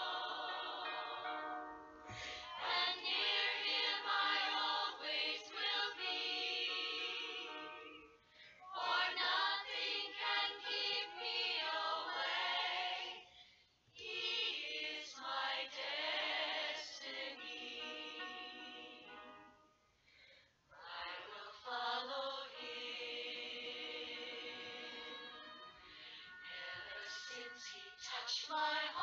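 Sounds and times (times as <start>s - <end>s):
choir singing: 0.0s - 1.6s, 2.2s - 13.3s, 14.0s - 19.4s, 20.7s - 29.0s.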